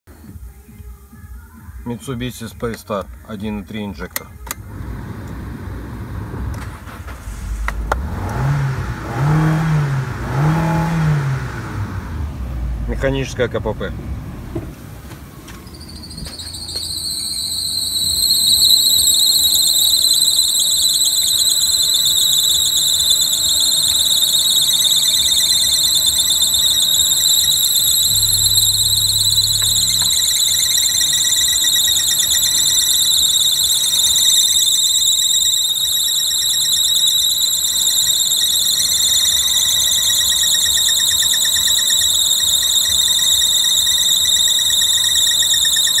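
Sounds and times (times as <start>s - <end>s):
engine high-pitched squeal: 4.5s - 14.6s, 15.4s - 46.0s.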